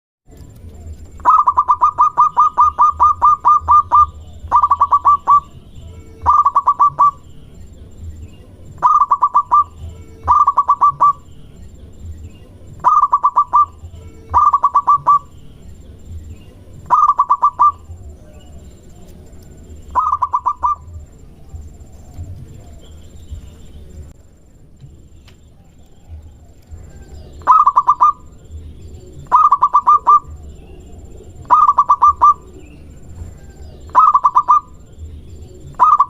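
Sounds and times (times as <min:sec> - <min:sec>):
dove cooing: 0:00.4 - 0:24.1, 0:25.5 - 0:36.0.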